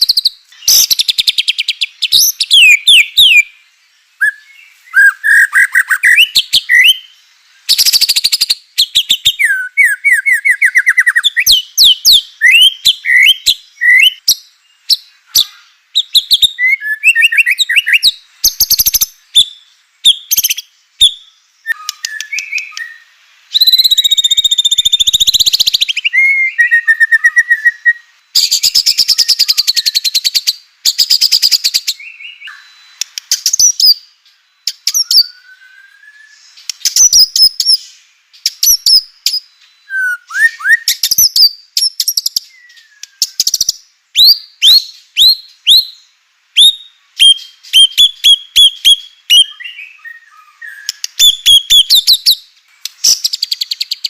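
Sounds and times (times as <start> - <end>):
bird singing whistled phrases: 0.0 - 3.6, 4.2 - 54.0.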